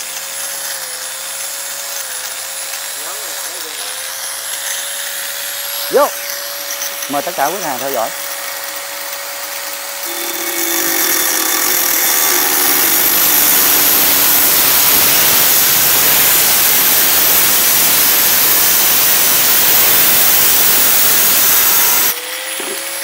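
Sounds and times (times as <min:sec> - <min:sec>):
angle grinder cutting: 0:00.0 - 0:23.0.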